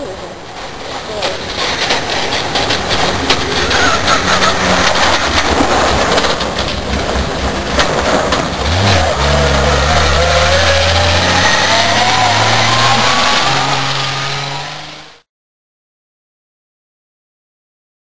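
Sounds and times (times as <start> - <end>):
tyres on gravel: 0.0 - 15.2
truck engine running hard: 0.0 - 15.3.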